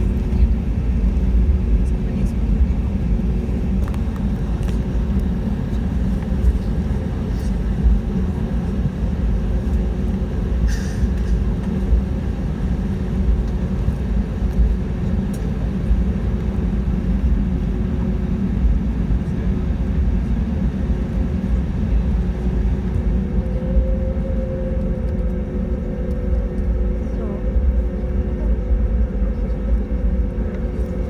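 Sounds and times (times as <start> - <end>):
aircraft engines idling rumble: 0.0 - 31.0
constant cabin hum: 0.0 - 31.0.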